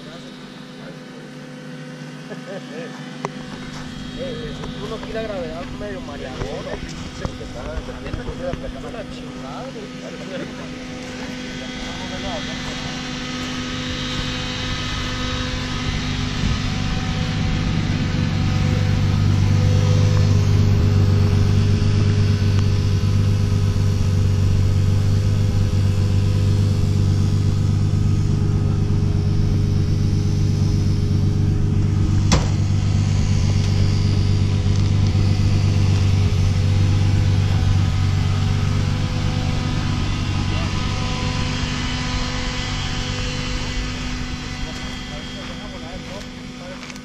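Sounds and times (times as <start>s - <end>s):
engine hum: 0.0s - 47.0s.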